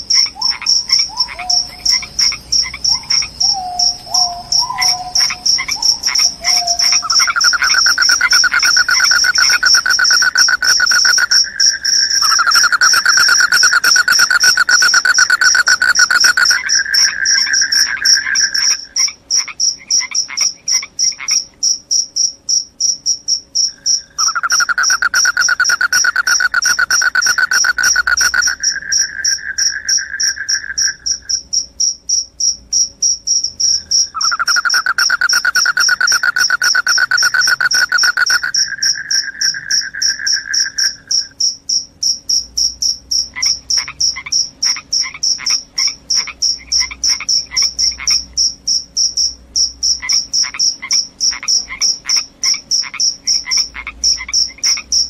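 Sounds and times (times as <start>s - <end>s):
high fast cricket trill: 0.0s - 55.0s
lower-pitched cricket trill: 0.0s - 55.0s.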